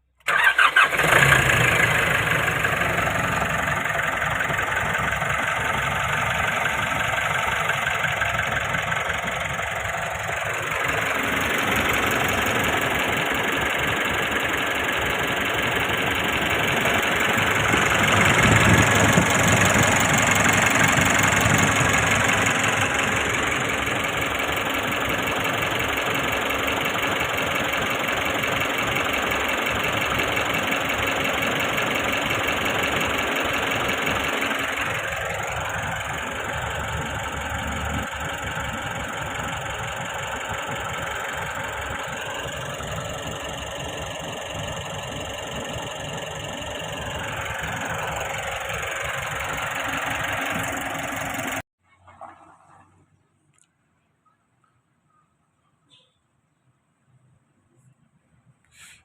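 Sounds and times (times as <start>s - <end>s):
van engine idling: 0.3s - 51.7s.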